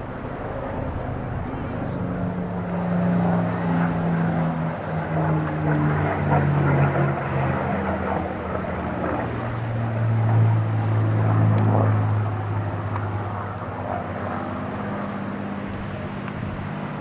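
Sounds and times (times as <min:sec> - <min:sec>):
propeller aircraft flying past: 0:00.0 - 0:17.0.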